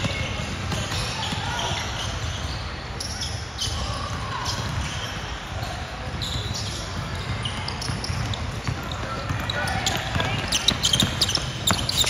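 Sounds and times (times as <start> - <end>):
basketball bouncing in hall: 0.0 - 12.0.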